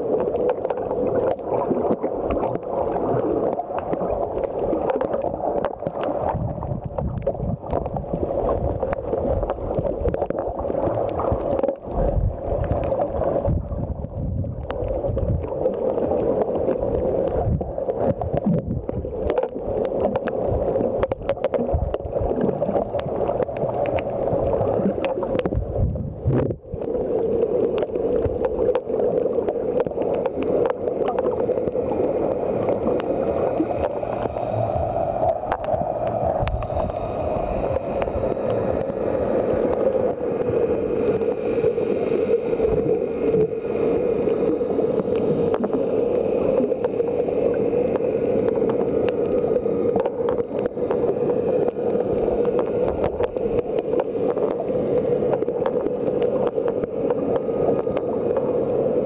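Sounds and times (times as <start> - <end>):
muffled underwater rushing: 0.0 - 59.0.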